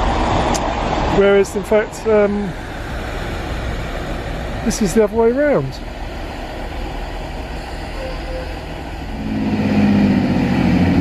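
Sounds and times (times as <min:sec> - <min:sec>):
train diesel engines rumbling: 0:00.0 - 0:11.0.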